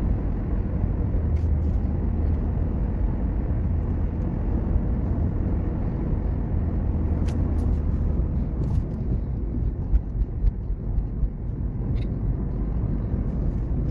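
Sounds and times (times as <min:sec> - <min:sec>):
car cabin road rumble: 0:00.0 - 0:13.9.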